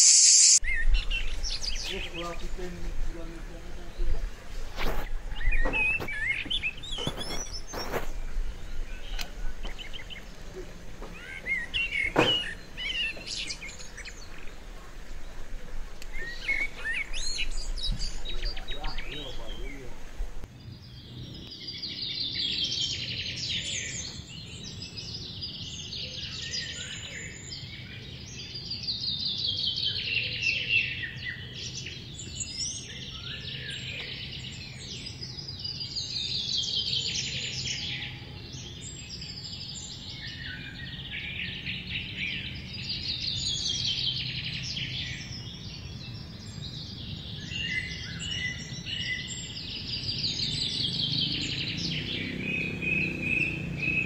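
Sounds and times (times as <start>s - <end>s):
bird chirps: 0.0s - 54.0s
songbirds trilling: 0.0s - 54.0s.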